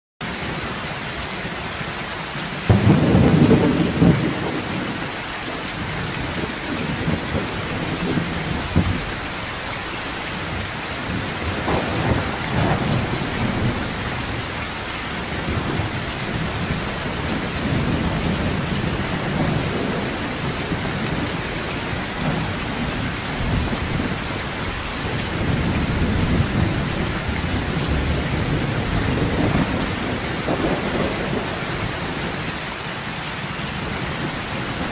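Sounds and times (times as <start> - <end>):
heavy rain on metal roof: 0.2 - 34.9
loud thunderclap: 2.7 - 32.5
rolling thunder: 2.7 - 32.6.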